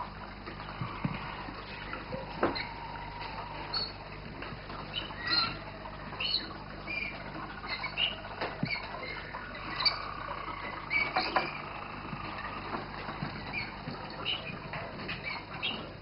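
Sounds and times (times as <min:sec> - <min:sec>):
canaries chirping: 0:00.8 - 0:04.0, 0:04.7 - 0:15.9.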